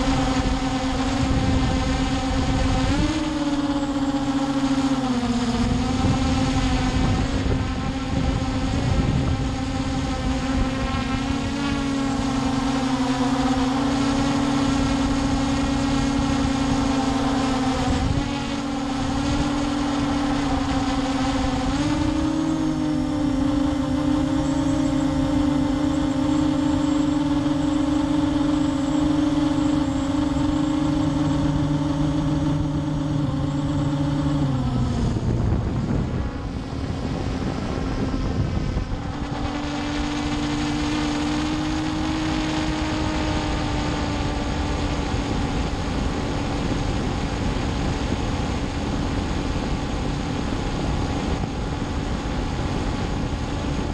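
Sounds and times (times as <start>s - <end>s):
drone propellers buzzing: 0.0s - 53.9s.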